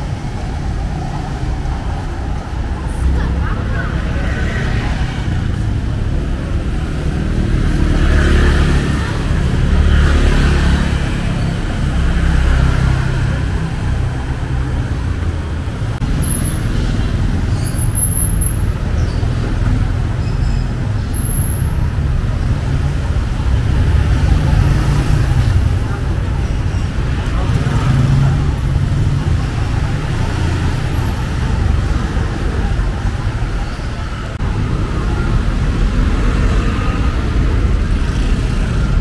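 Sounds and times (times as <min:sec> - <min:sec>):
vehicles passing close by: 0:00.0 - 0:39.0.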